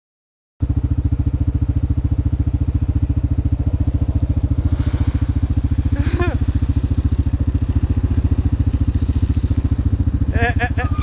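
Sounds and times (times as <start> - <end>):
atv engine idling: 0.6 - 11.0
atv ploughing through water: 1.4 - 11.0.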